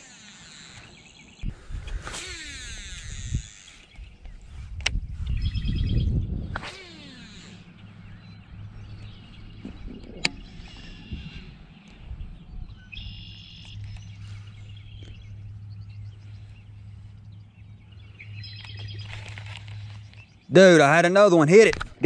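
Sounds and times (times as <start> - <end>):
steady low hum: 0.0 - 21.1
birds calling: 0.0 - 21.8.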